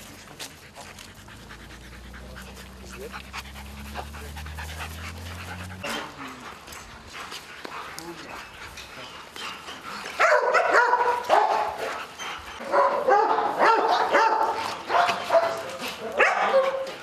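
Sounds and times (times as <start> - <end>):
dogs barking and yipping: 0.0 - 17.0.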